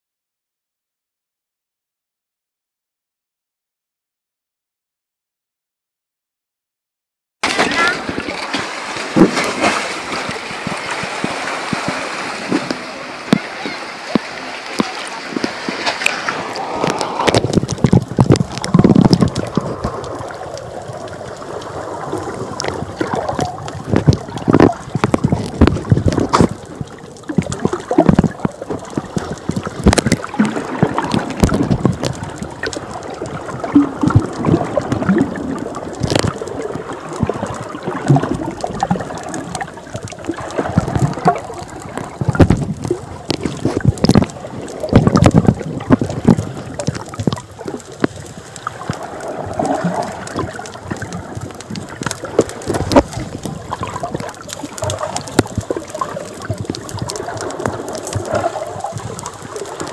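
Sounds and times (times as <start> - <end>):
seawater gurgling and sloshing: 7.4 - 59.9
water splashes and knocks: 7.4 - 59.9.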